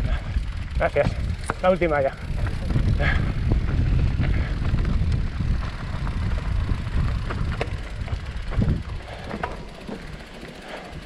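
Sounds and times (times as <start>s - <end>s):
bike clicks and rattles: 0.0s - 11.0s
tyres on loose ground: 0.0s - 11.0s
wind buffeting microphone: 0.0s - 11.0s.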